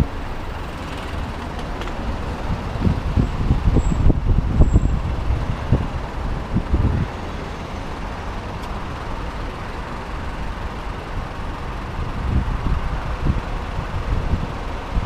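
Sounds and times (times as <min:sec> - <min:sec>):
wind buffeting microphone: 0:00.0 - 0:09.1, 0:10.2 - 0:15.0
road traffic noise: 0:00.0 - 0:15.0.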